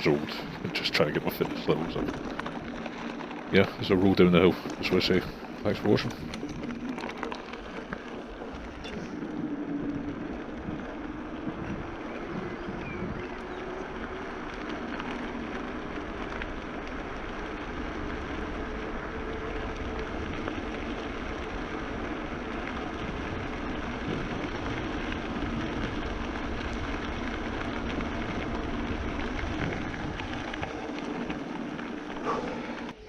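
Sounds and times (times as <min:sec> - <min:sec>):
bike tyres rolling: 0:00.0 - 0:33.0
wind rushing over microphone: 0:00.0 - 0:33.0.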